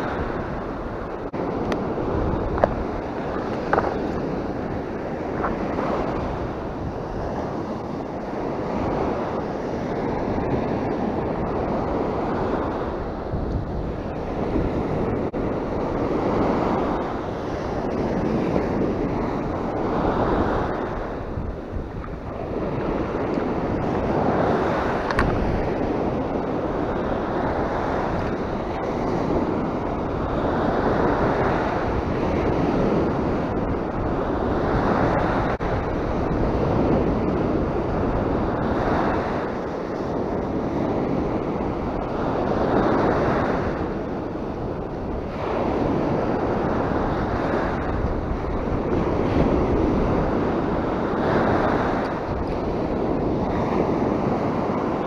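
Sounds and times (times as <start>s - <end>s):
surf breaking on sand: 0.0s - 55.0s
wind buffeting microphone: 0.0s - 55.0s.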